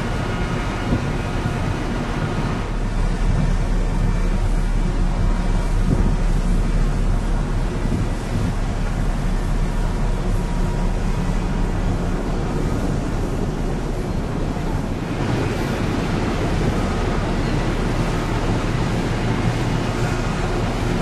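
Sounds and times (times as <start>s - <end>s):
propeller churning water hiss: 0.0s - 21.0s
ship engine drone: 0.0s - 21.0s.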